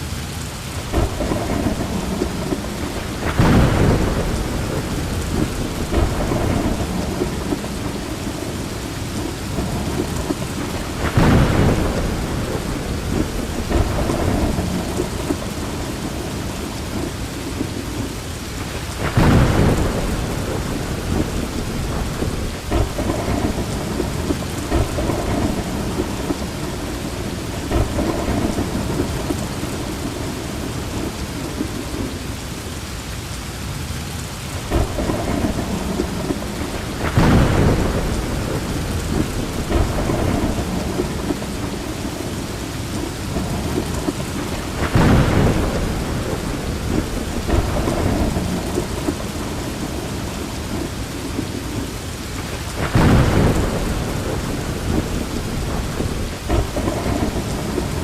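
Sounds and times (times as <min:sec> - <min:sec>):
heavy rain falling: 0:00.0 - 0:58.0
thunder rumbling: 0:00.6 - 0:32.6, 0:34.4 - 0:58.0.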